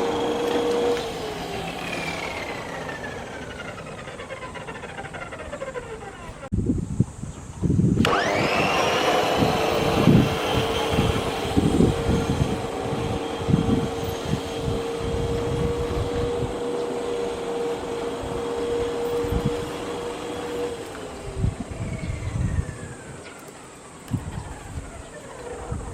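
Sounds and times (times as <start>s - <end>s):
electric lawn mower motor whining: 0.0s - 25.9s.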